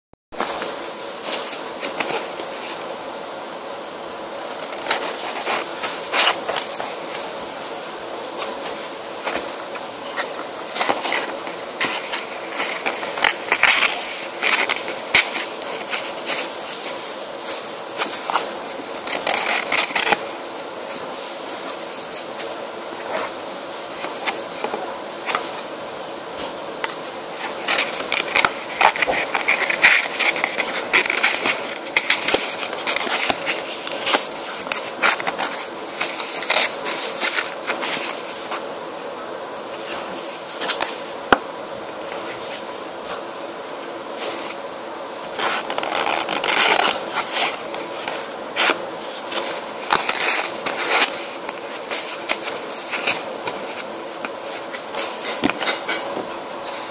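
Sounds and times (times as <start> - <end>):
paper rustling and crinkling: 0.4 - 3.5, 4.2 - 38.7, 39.5 - 56.9
steady background hum: 0.4 - 56.9.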